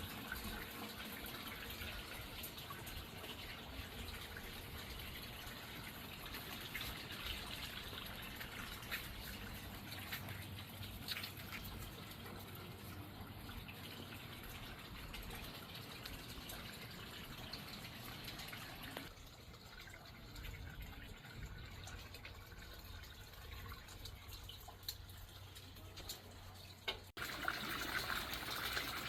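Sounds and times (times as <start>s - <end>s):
faint trickling water: 0.0s - 29.0s
water drips: 0.0s - 29.0s.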